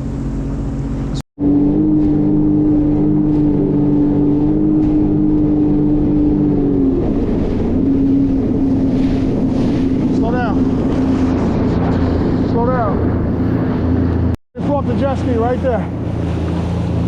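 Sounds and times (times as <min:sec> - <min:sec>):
jet ski engine drone: 0:00.0 - 0:17.0.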